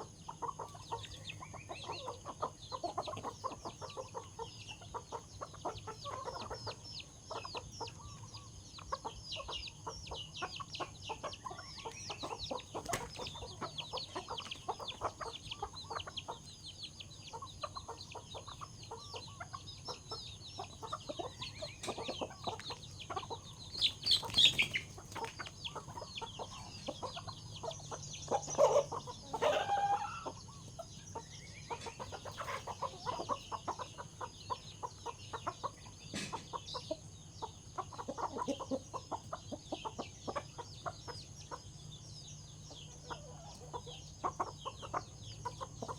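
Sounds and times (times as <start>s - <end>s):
chickens clucking and squawking: 0.0s - 45.9s.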